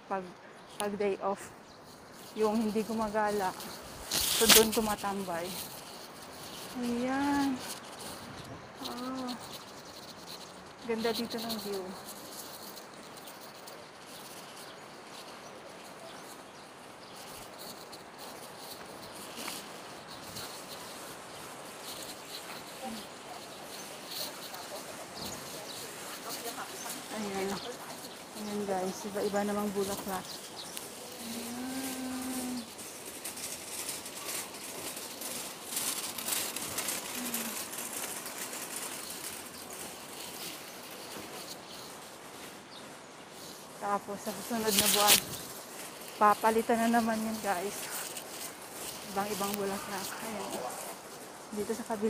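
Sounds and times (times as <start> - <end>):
background hiss: 0.0 - 52.0
insects buzzing: 0.0 - 52.0.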